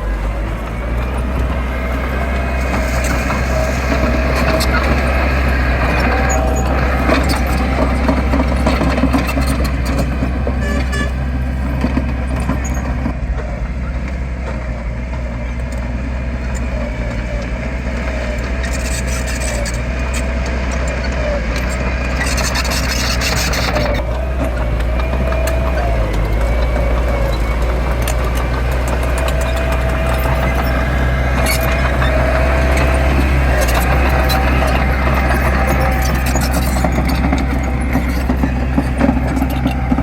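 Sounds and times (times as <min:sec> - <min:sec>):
heavy diesel engine droning: 0:00.0 - 0:40.0.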